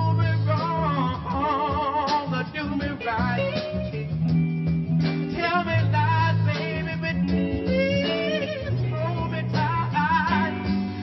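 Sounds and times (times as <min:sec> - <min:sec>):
person singing: 0:00.0 - 0:04.1, 0:05.3 - 0:11.0
bass guitar: 0:00.0 - 0:11.0
guitar playing: 0:00.0 - 0:11.0.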